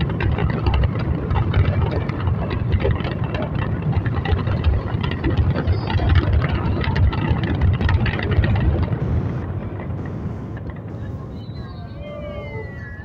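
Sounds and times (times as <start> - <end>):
low rumble of bursts: 0.0 - 13.0.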